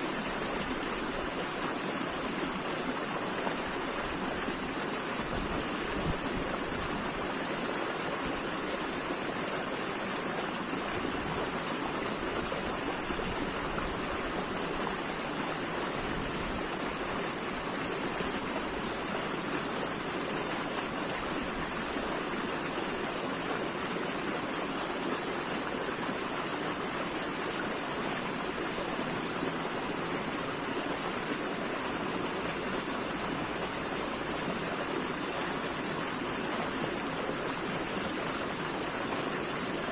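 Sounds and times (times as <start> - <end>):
water rushing steadily: 0.0 - 39.9.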